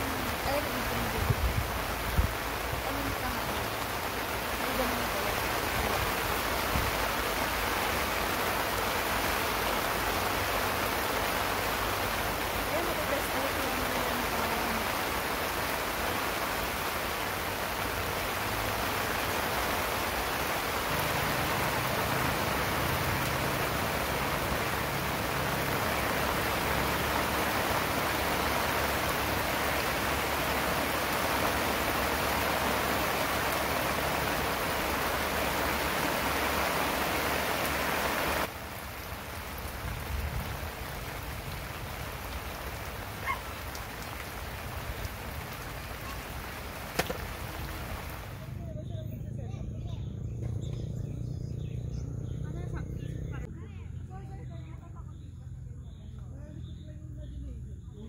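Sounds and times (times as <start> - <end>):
rain on a tarp: 0.0 - 48.6.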